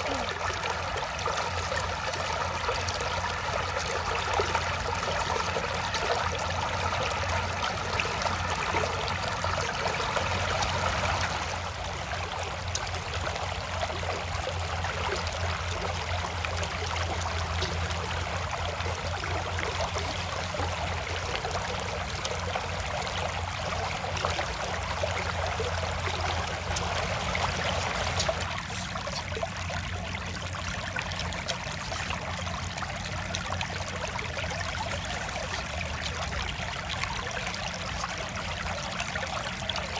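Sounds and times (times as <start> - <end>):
floodwater rushing over rock: 0.0 - 39.9.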